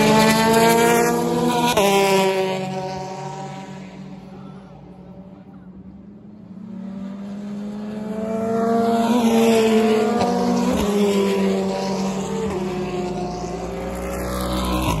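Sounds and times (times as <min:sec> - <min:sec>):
racing cars passing at speed: 0:00.0 - 0:15.0.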